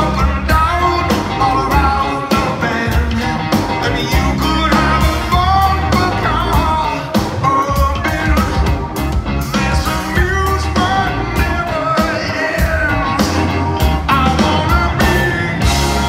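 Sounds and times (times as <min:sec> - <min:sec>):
live rock band playing: 0:00.0 - 0:16.0
man singing lead vocal: 0:00.0 - 0:16.0.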